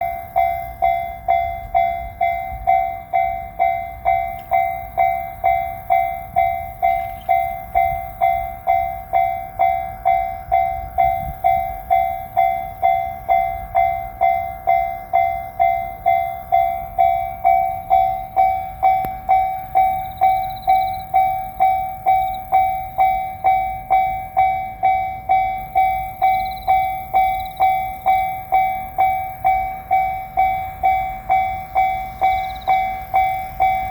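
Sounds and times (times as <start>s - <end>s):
level-crossing warning bell: 0.0s - 33.9s.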